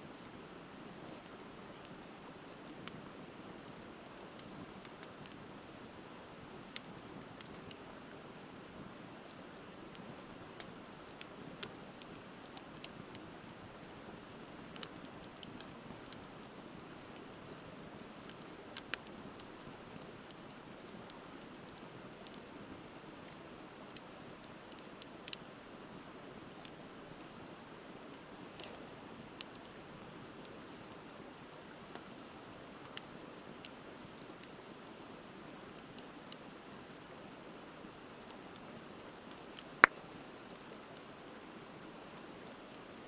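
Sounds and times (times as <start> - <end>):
bonfire crackling and popping: 0.1 - 43.0.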